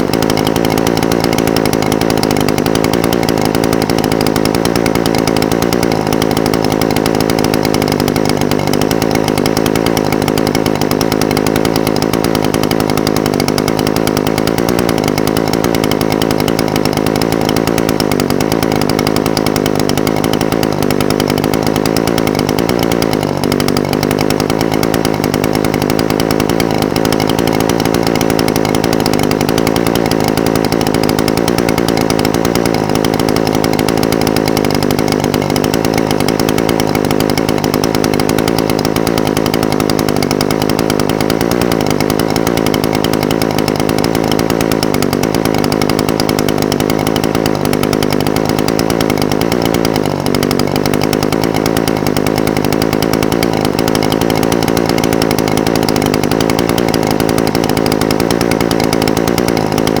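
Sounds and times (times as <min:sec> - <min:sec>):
brush cutter engine idling: 0:00.0 - 1:00.0.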